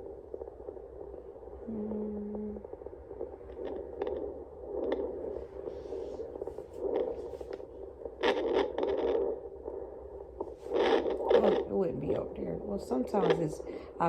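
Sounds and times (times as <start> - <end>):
probe scraping and crackling clicks: 0.0 - 1.6, 2.6 - 14.0.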